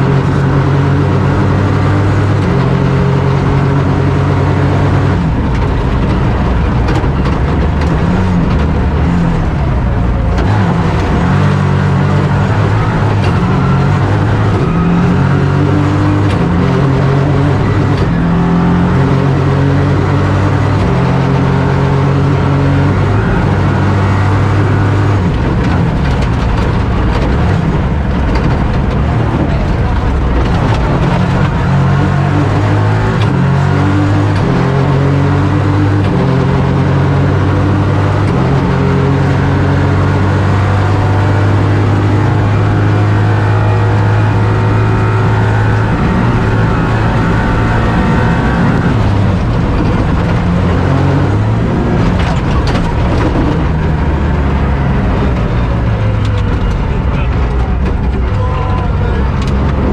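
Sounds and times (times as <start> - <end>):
rally car engine revving: 0.0 - 59.9
tyre and road noise: 0.0 - 59.9.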